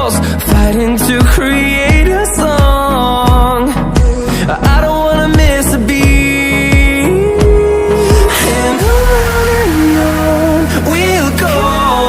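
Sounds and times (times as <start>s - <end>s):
background pop song: 0.0s - 12.0s.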